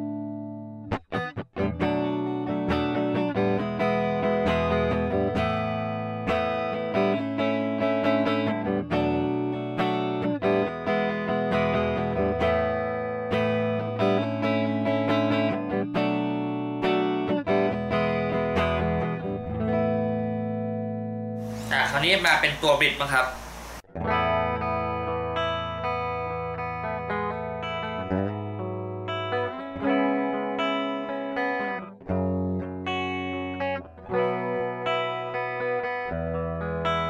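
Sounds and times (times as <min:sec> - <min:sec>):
electric guitar picked chords: 0:00.0 - 0:37.0.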